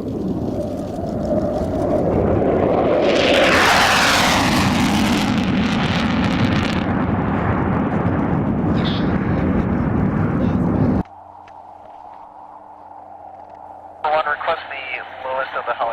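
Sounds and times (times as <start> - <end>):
low rumble: 0.0 - 15.4
jet passing overhead: 0.0 - 15.9.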